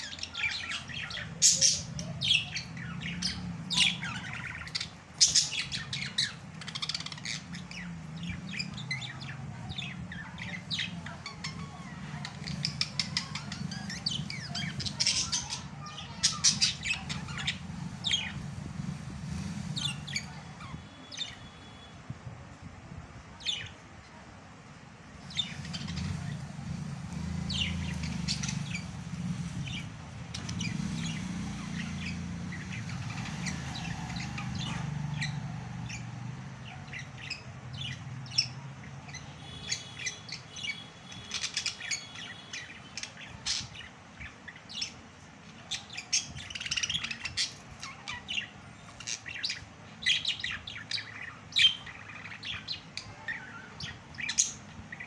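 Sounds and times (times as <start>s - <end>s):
budgerigars chirping and squawking: 0.0s - 21.9s, 23.4s - 23.8s, 25.2s - 55.0s
low background rumble: 0.0s - 55.0s.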